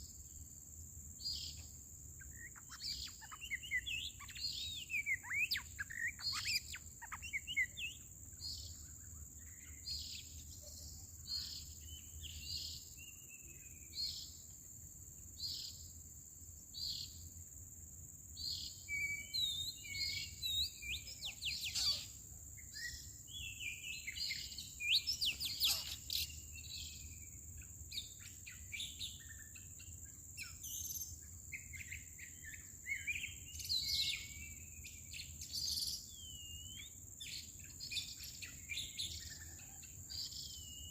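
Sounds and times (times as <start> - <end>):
songbirds chirping and whistling: 1.2 - 14.7, 18.3 - 40.9.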